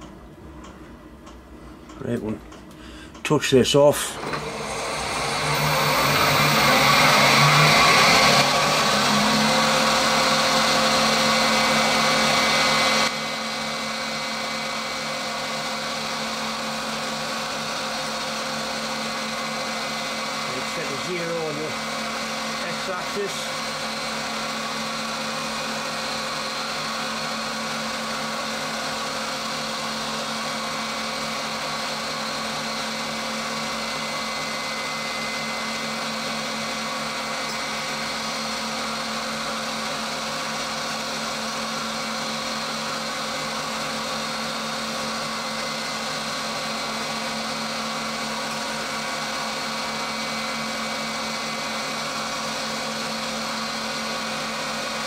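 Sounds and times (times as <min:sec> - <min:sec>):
milling machine spindle whine: 0:03.9 - 0:55.0
end mill cutting metal: 0:04.0 - 0:55.0.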